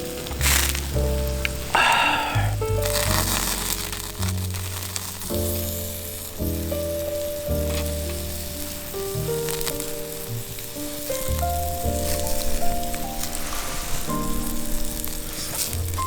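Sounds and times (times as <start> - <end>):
background music with bass line: 0.0 - 13.0
food sizzling on campfire: 0.0 - 16.0.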